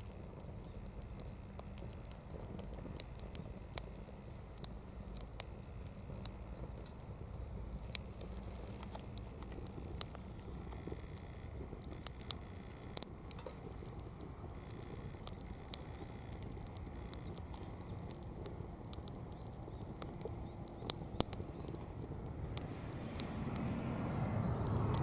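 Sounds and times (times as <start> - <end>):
fire popping: 0.0 - 25.0
steady low rumble: 0.0 - 25.0
wood fire crackling: 0.0 - 25.0.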